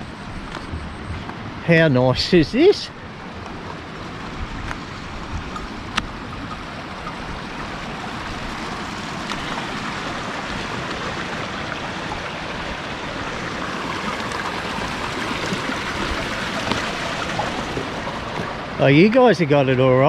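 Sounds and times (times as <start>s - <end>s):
stream water running over rocks: 1.3s - 20.0s.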